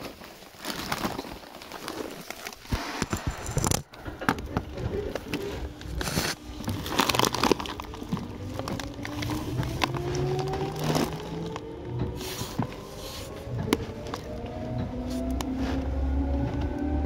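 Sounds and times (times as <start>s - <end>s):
train motor whine rising: 2.5s - 17.0s.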